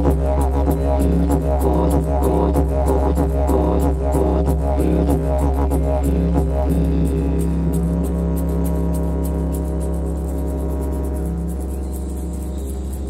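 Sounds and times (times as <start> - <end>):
didgeridoo drone: 0.0 - 13.0.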